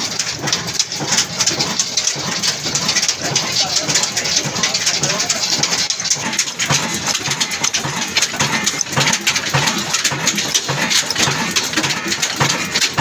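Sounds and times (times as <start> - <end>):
diesel engine running: 0.0 - 13.0
rhythmic mechanical clatter: 0.0 - 13.0.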